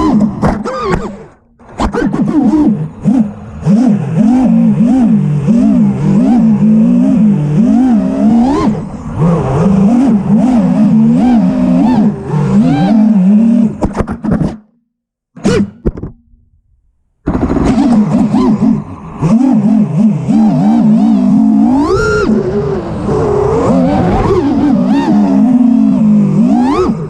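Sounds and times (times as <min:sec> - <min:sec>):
quadcopter motors whining: 0:00.0 - 0:13.8, 0:17.3 - 0:27.0.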